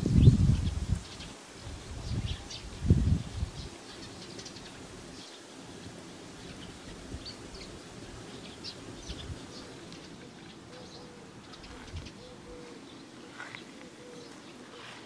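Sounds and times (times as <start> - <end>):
faint steady hiss: 0.0 - 15.0
small birds chirping: 0.0 - 15.0.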